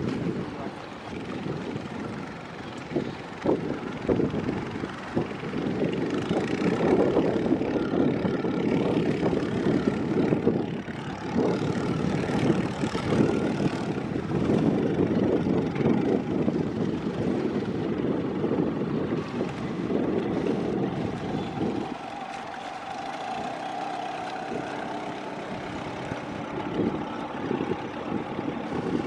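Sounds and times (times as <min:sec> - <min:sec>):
boat engine idling: 0:00.0 - 0:29.0.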